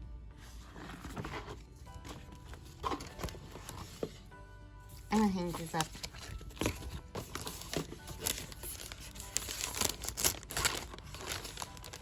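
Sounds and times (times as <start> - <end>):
paper crinkling and rustling: 0.6 - 4.2, 5.0 - 12.0.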